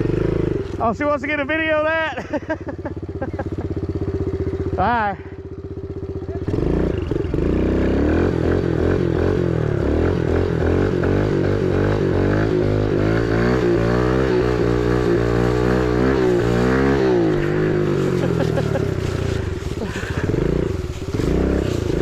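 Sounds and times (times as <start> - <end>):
small motorcycle engine revving: 0.0 - 22.0.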